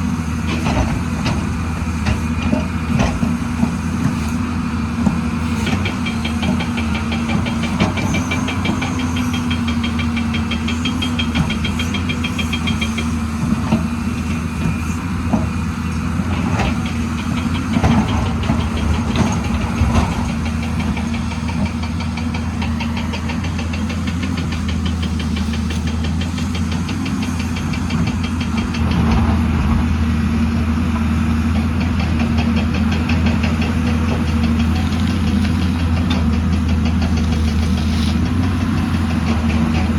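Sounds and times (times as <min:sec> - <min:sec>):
excavator diesel engine clattering: 0:00.0 - 0:39.9.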